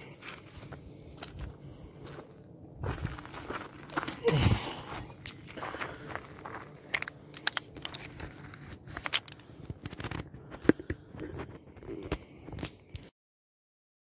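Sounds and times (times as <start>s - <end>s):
footsteps on dry grass and twigs: 0.0s - 12.9s.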